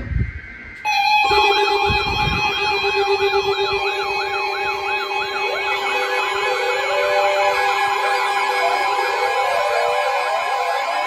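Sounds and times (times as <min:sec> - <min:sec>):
steady held tone: 0:00.0 - 0:11.0
second sweeping siren tone: 0:00.4 - 0:11.0
electronic siren wailing: 0:00.7 - 0:11.0.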